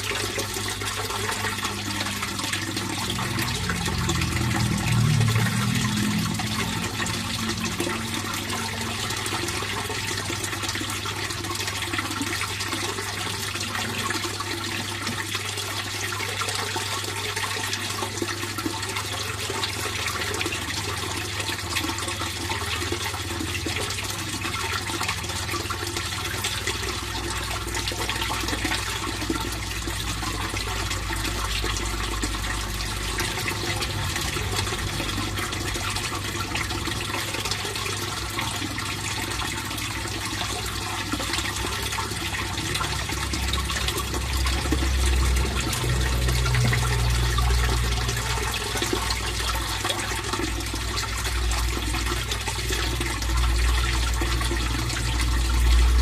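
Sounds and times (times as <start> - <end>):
pond water trickling: 0.0 - 56.0.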